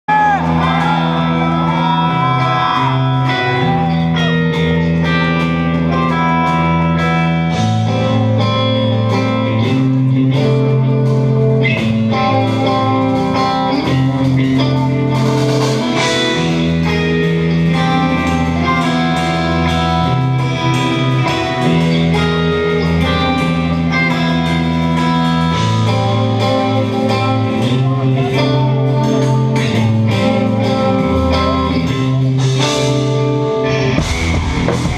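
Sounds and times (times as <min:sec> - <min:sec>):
progressive metal electric guitar: 0:00.1 - 0:34.9.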